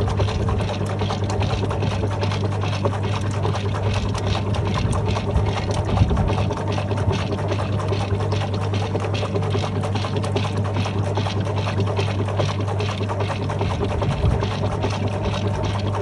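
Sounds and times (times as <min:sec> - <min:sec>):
washing machine motor hum: 0:00.0 - 0:16.0
water churning and sloshing: 0:00.0 - 0:16.0.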